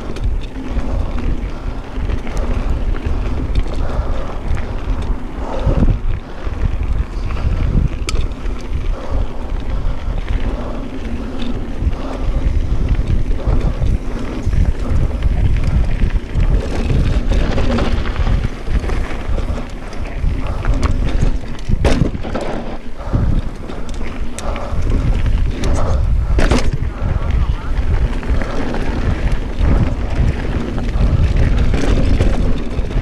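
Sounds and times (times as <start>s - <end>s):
mountain bike rattling on dirt trail: 0.0s - 33.0s
wind buffeting microphone: 0.0s - 33.0s.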